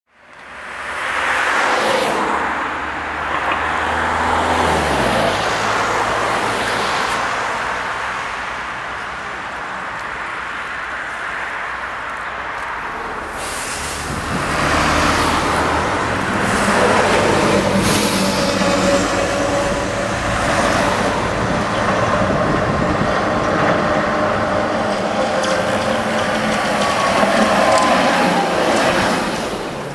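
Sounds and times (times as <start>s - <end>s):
road traffic: 0.1s - 29.9s
cars passing: 0.2s - 29.9s
tram rolling along track: 0.2s - 29.9s.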